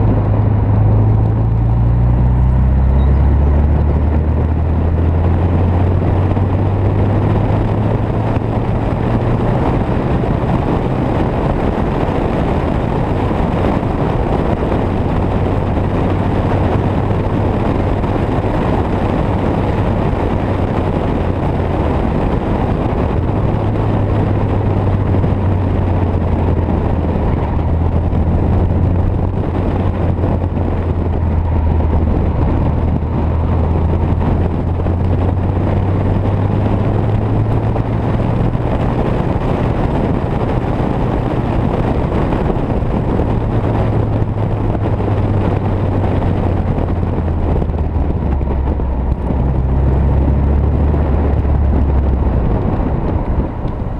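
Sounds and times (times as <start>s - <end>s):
car engine droning: 0.0s - 53.9s
wind noise: 0.0s - 53.9s.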